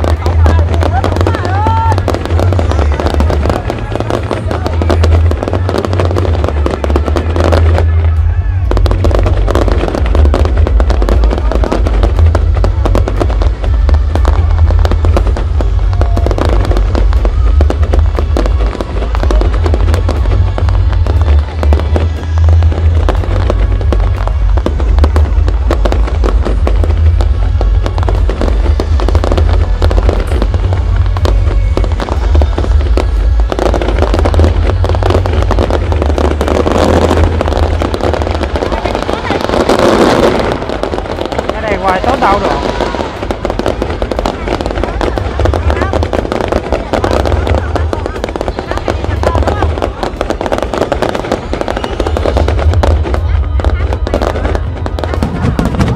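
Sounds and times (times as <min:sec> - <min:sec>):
fireworks cracks and bangs: 0:00.0 - 0:55.9
heavy low rumble: 0:00.0 - 0:55.9.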